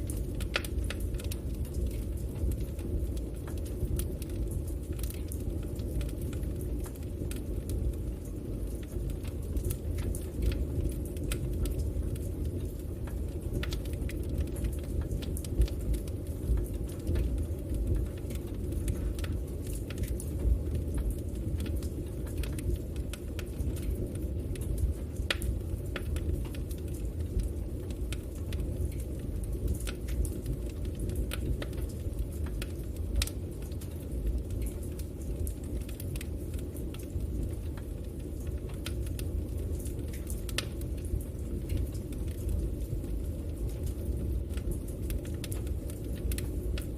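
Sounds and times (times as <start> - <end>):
fire crackling and popping: 0.0 - 46.9
fire rumbling in a fireplace: 0.0 - 46.9.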